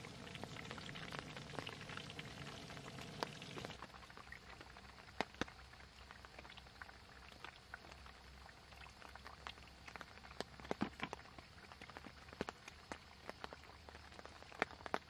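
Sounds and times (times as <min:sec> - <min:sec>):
hot oil crackling in a frying pan: 0:00.0 - 0:15.0.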